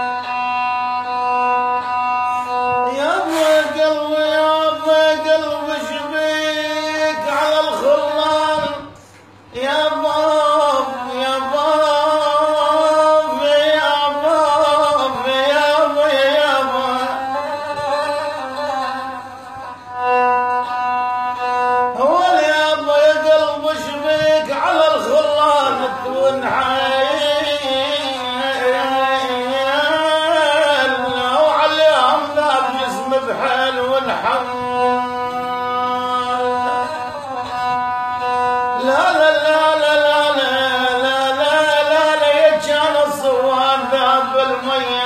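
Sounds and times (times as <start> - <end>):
bowed fiddle: 0.0 - 45.0
man singing: 0.0 - 45.0.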